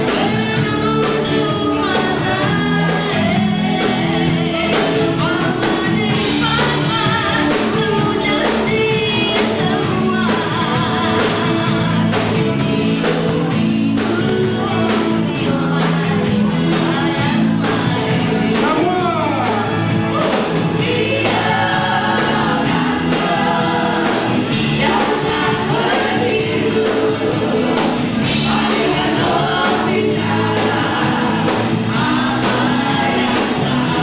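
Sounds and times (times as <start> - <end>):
woman singing: 0.0 - 18.8, 20.1 - 34.0
drums: 0.0 - 34.0
electric guitar: 0.0 - 34.0.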